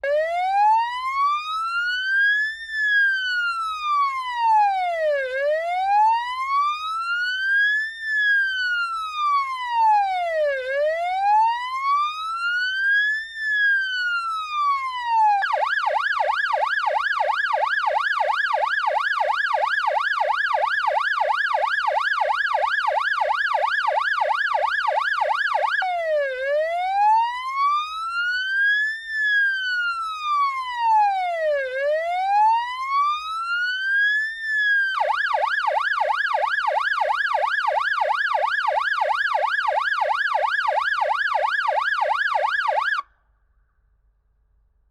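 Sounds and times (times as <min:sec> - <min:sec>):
ambulance siren wail and yelp: 0:00.0 - 0:43.1.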